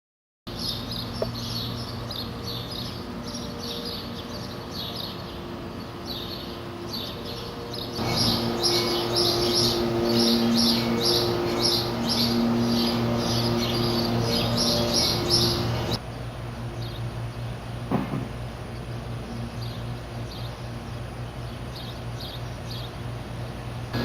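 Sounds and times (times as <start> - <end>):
birds chirping: 0.5 - 24.0
steady low hum: 0.5 - 24.0.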